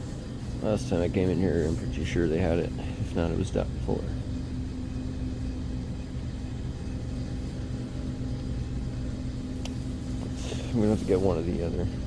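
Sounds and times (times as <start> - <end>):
low mechanical hum with tone: 0.0 - 12.0.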